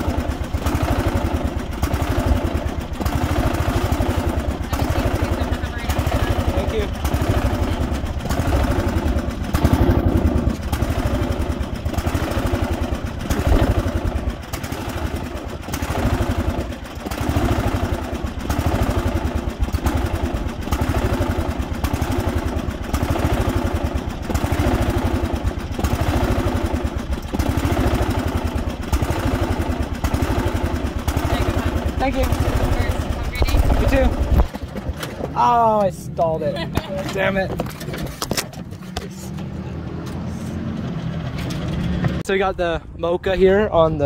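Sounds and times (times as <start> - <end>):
lawn mower engine running: 0.0 - 42.4.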